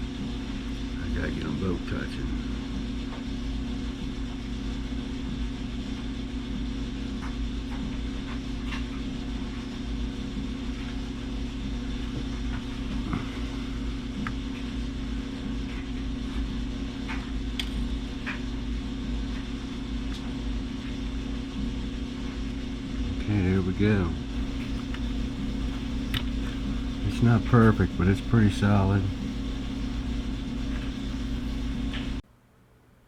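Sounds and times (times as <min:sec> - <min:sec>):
low machine hum: 0:00.0 - 0:32.2.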